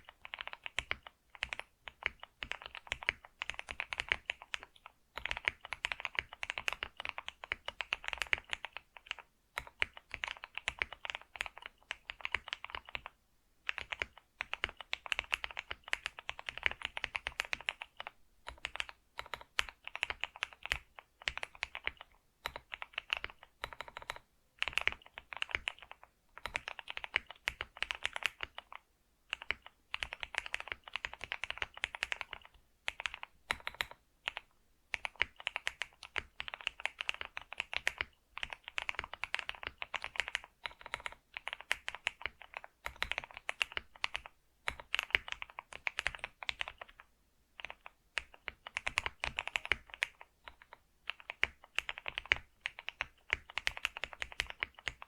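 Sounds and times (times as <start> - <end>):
computer keyboard typing: 0.0 - 55.0.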